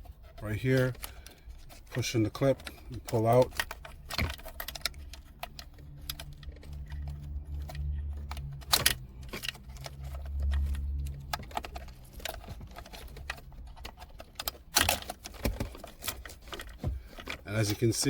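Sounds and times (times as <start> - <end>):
plastic connectors clicking: 0.8 - 17.9.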